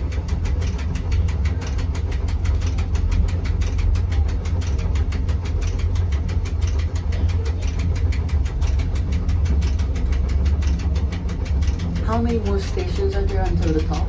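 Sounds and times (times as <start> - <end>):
fast even clicking: 0.0 - 14.0
train drive low rumble: 0.0 - 14.0.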